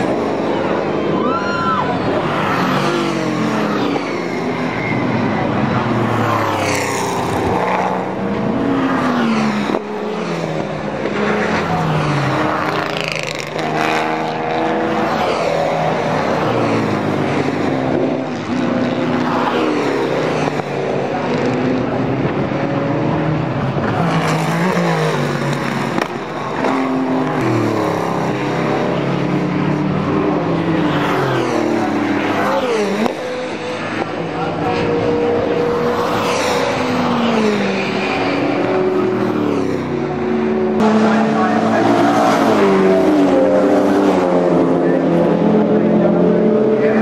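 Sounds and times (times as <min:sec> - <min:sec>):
racing car engines passing: 0:00.0 - 0:47.0.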